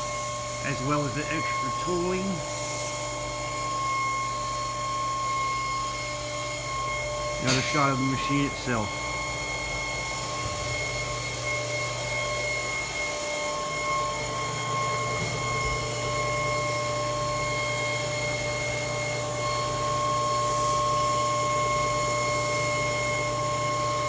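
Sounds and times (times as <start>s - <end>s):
industrial machinery humming: 0.0s - 24.0s.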